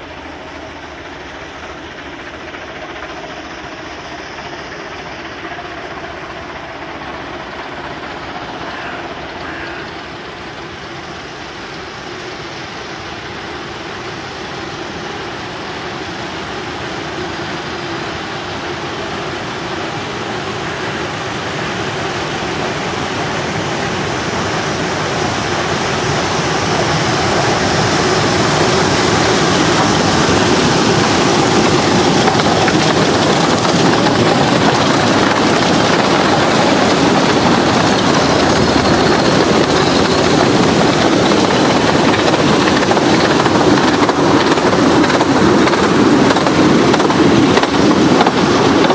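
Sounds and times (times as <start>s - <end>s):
steam locomotives chuffing: 0.0s - 48.9s.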